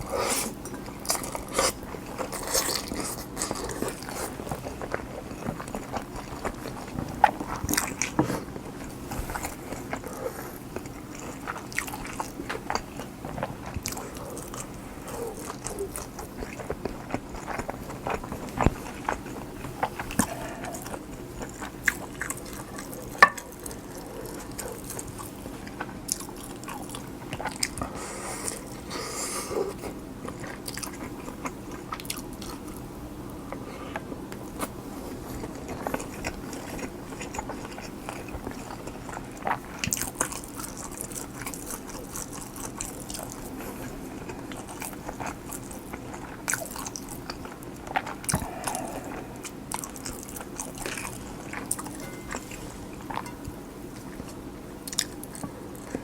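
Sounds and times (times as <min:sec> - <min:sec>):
low room hum: 0:00.0 - 0:56.0
wet chewing with crunchy bites: 0:00.0 - 0:56.0.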